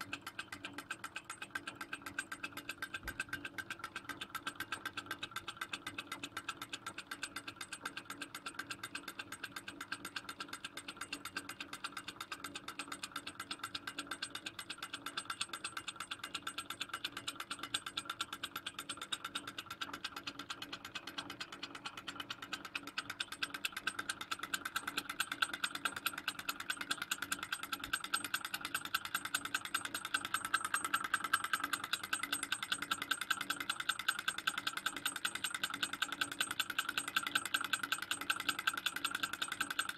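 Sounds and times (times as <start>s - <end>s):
stirling engine clicking clatter: 0.0s - 39.9s.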